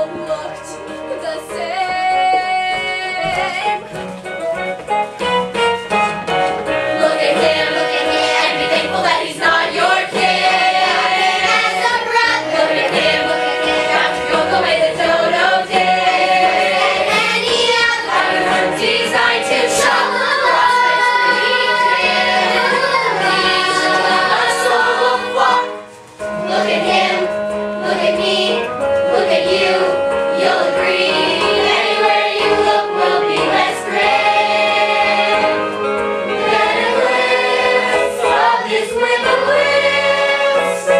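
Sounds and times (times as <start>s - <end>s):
instrumental accompaniment: 0.0s - 40.9s
children's chorus singing: 6.8s - 40.9s.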